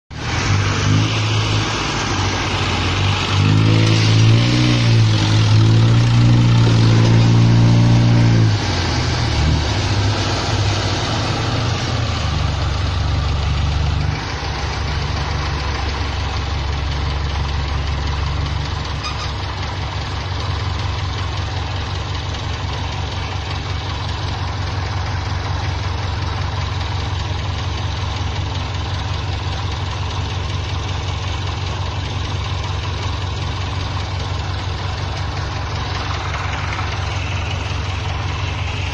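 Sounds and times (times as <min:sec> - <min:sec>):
tractor diesel engine revving under load: 0:00.1 - 0:38.9.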